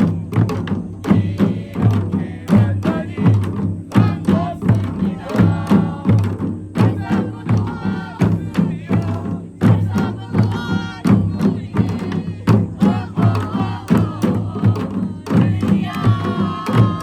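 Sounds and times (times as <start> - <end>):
percussion band drums and gongs: 0.0 - 17.0.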